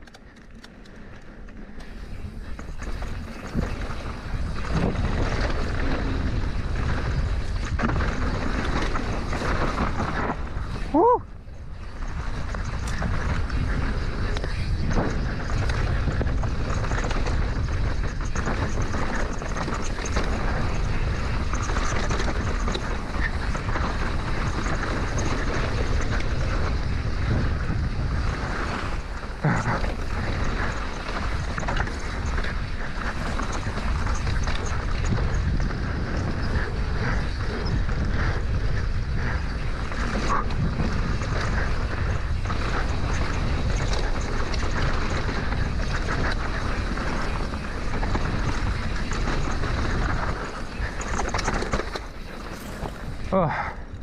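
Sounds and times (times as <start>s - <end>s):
bike chassis rattle: 0.0s - 11.0s, 11.6s - 53.7s
bike tyre noise on dirt: 0.0s - 54.0s
wind buffeting microphone: 1.8s - 54.0s.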